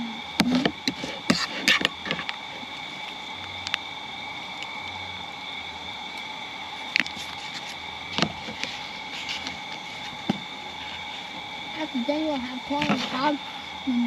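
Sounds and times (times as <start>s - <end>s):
steady high-pitched hum: 0.0s - 14.0s.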